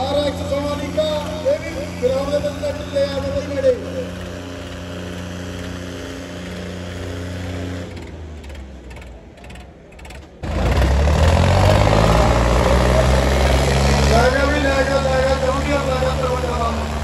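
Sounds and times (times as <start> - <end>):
diesel tractor engines under load: 0.0 - 17.0.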